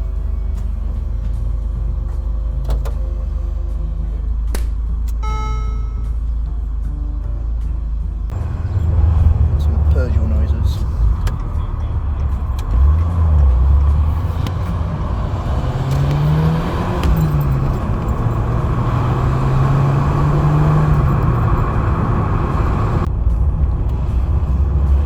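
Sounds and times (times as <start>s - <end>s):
car engine accelerating: 0.0s - 25.0s
road and wind noise: 0.0s - 25.0s.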